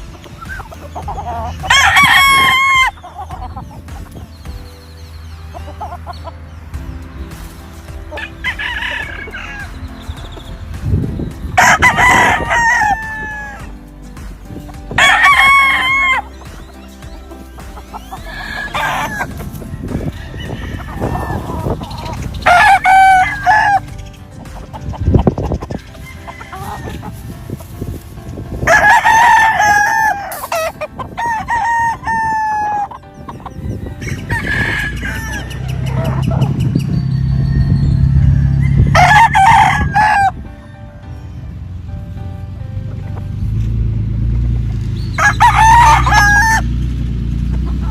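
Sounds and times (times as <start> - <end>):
roosters crowing: 0.0 - 41.5, 43.2 - 47.9.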